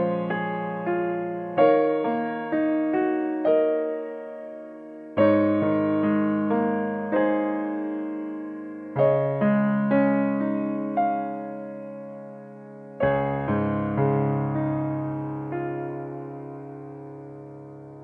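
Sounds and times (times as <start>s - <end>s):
slow gentle piano: 0.0s - 18.0s.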